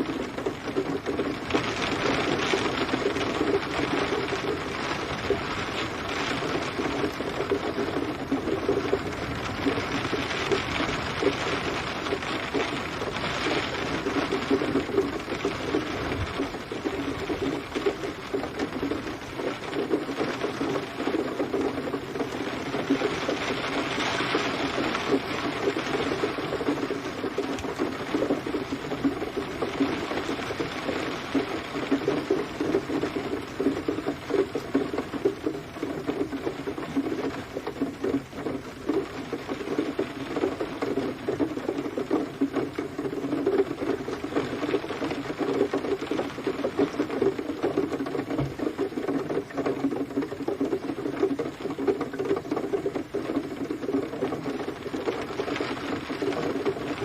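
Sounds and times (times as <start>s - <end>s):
rain pattering on hard surface: 0.0s - 57.0s.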